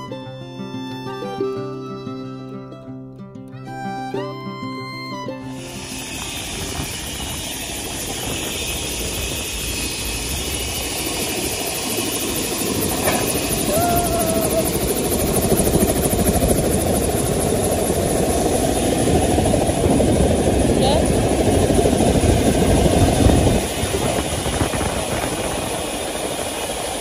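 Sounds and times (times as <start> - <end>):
helicopter engine and rotor: 3.7 - 27.0.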